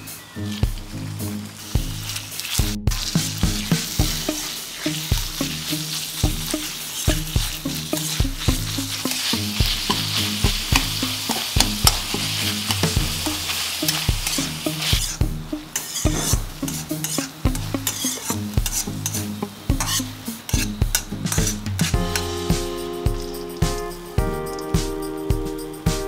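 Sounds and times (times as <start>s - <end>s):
metal spatula scraping wok: 0.0s - 23.6s
food sizzling in oil: 0.0s - 26.0s.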